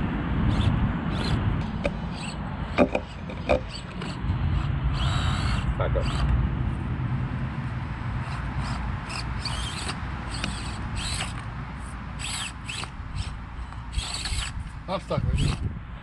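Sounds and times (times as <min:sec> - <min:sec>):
small electric motor whining: 0:00.0 - 0:06.4, 0:08.1 - 0:15.7.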